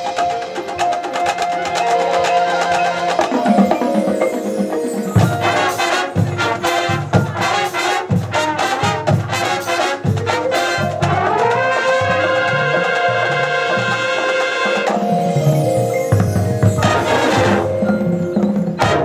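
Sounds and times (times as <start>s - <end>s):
drum hits: 0.0s - 19.0s
marching band brass chords: 0.0s - 19.0s.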